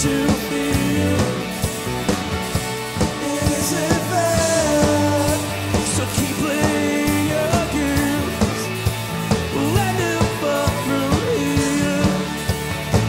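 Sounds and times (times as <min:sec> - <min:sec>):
drum kit: 0:00.0 - 0:13.0
electric bass: 0:00.0 - 0:13.0
electric guitar: 0:00.0 - 0:13.0.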